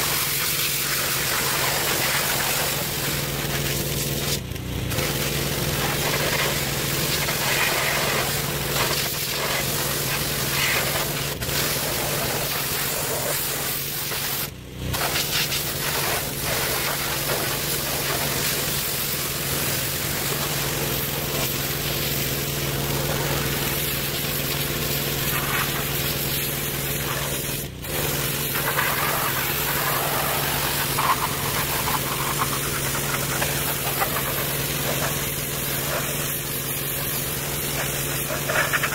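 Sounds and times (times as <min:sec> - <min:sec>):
pressure washer engine hum: 0:00.0 - 0:38.9
water spray hiss: 0:00.0 - 0:38.9.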